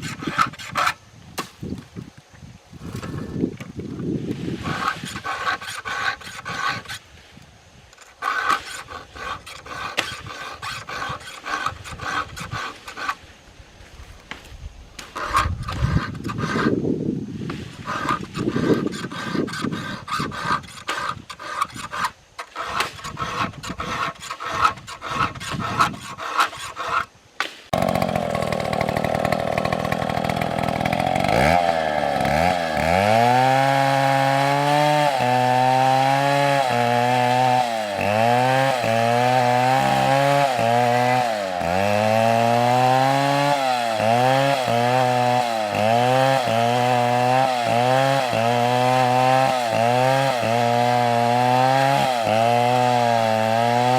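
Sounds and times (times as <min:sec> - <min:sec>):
chainsaw cutting wood: 0:00.0 - 0:01.8, 0:02.8 - 0:07.1, 0:07.7 - 0:13.3, 0:14.2 - 0:16.8, 0:17.5 - 0:53.9.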